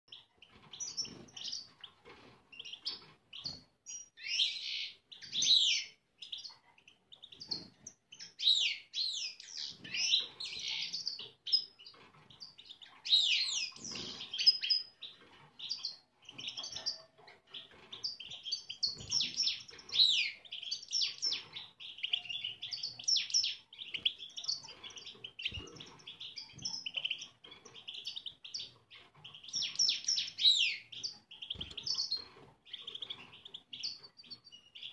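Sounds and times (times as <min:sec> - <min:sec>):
finches twittering and singing: 0:00.1 - 0:34.9.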